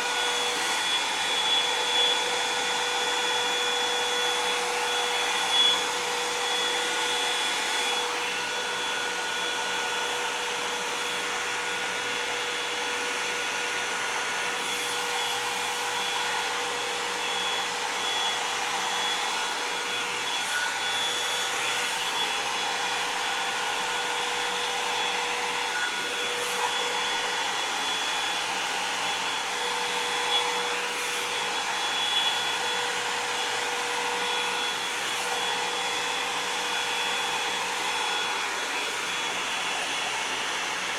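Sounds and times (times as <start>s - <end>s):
hair dryer blowing air: 0.0s - 40.9s.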